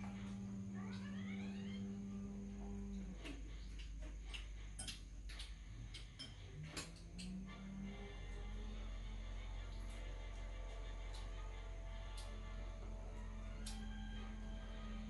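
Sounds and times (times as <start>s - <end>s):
steady low tone: 0.0s - 15.0s.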